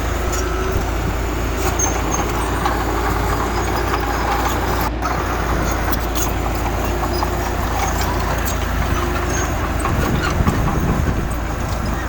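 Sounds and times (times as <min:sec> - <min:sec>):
diesel earthmoving machinery: 0:00.0 - 0:12.0.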